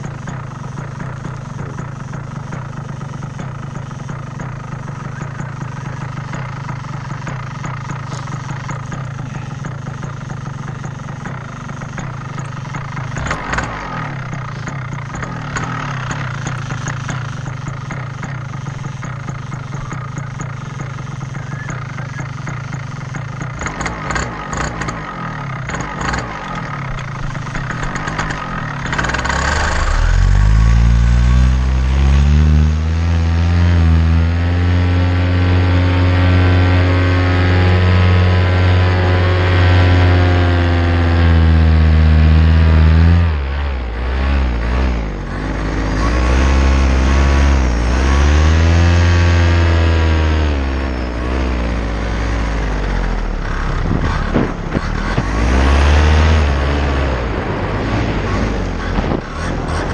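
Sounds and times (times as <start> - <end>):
paramotor engine: 0.0 - 59.9.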